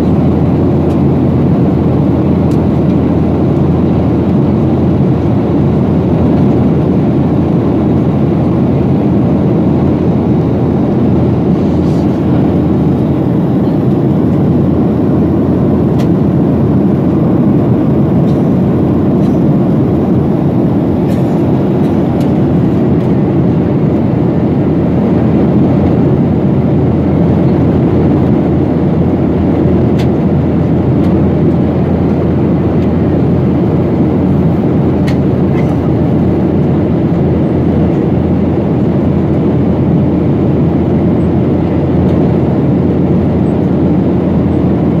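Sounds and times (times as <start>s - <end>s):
airliner cabin engine rush: 0.0s - 45.0s.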